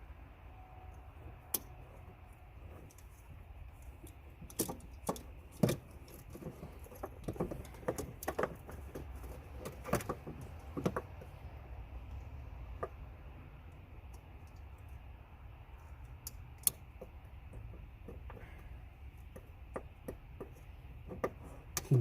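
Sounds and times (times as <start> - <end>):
faint low hum: 0.0 - 19.6.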